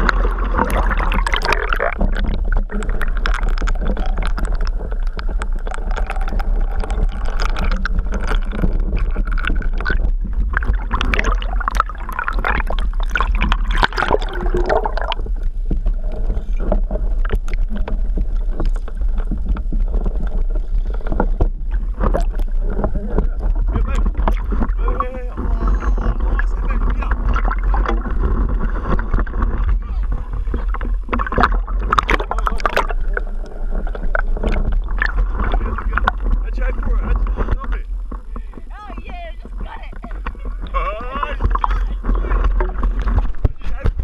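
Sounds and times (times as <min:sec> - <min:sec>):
sea water sloshing and gurgling: 0:00.0 - 0:44.0.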